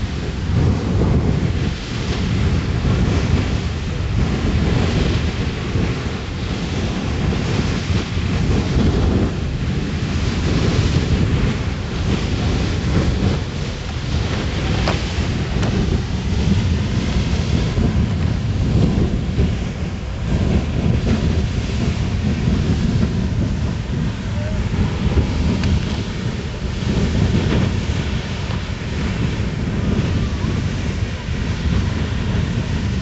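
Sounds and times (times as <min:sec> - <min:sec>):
geyser water jet rushing: 0:00.0 - 0:33.0.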